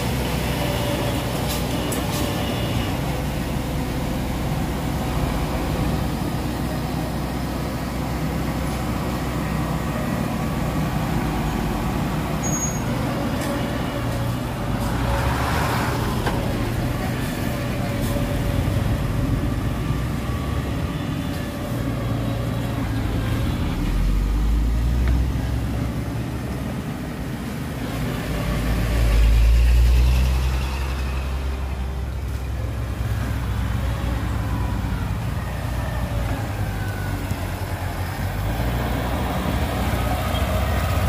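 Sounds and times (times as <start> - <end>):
diesel engine low rumble: 0.0 - 41.0.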